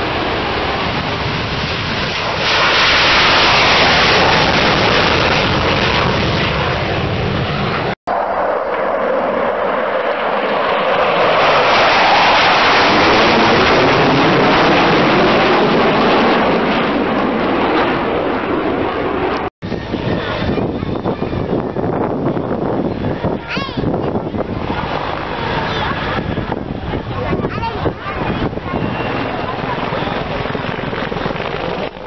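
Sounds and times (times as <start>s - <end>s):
jet fighters roaring: 0.0s - 32.0s.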